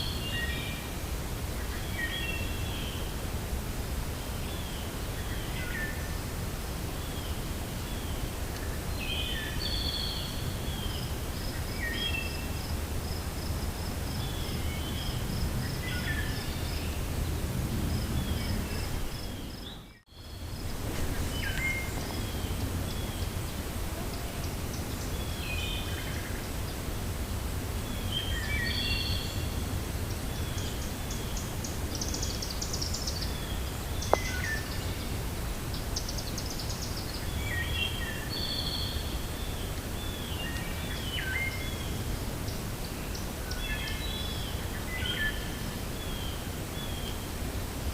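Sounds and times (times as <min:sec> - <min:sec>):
songbirds chirping: 0:00.0 - 0:47.9
wind blowing through forest: 0:00.0 - 0:47.9.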